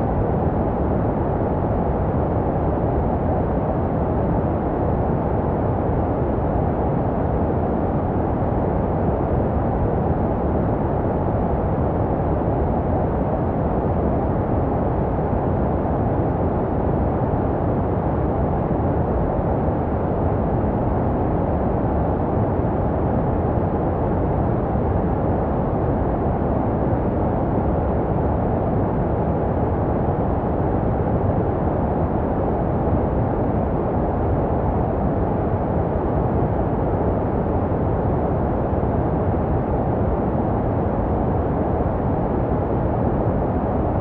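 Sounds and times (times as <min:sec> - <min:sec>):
deep muffled white noise: 0:00.0 - 0:44.0.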